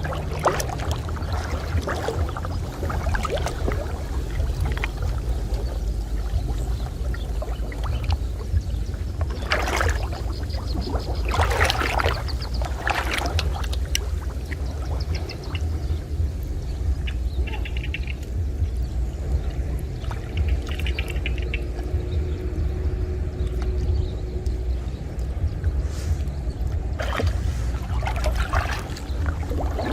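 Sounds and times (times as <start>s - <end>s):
low rumble: 0.0s - 29.9s
water splashing and sloshing: 0.0s - 29.9s.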